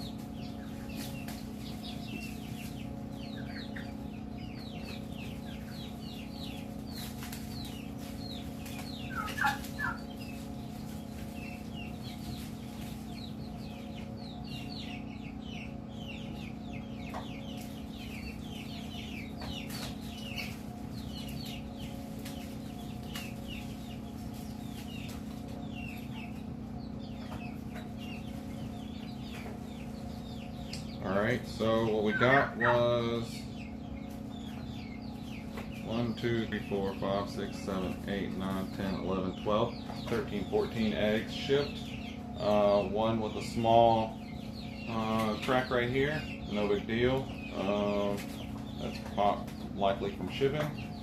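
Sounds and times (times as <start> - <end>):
chicks peeping: 0.0 - 51.0
hen calling: 0.0 - 51.0
steady low hum: 0.0 - 51.0.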